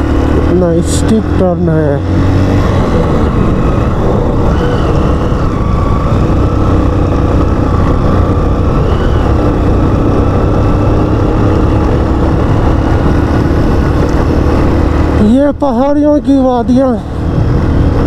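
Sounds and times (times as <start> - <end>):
motorcycle engine running: 0.0 - 18.0
wind noise on microphone: 0.0 - 18.0.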